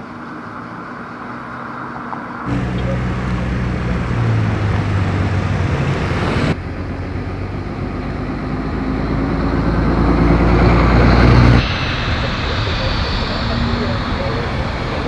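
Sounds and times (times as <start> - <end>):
jet engines at taxi power: 2.5 - 15.0.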